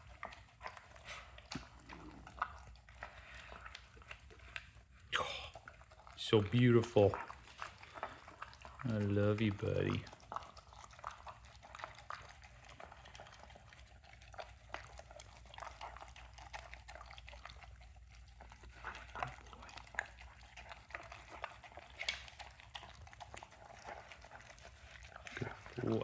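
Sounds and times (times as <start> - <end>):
dog licking and chewing wet food: 0.0 - 26.0.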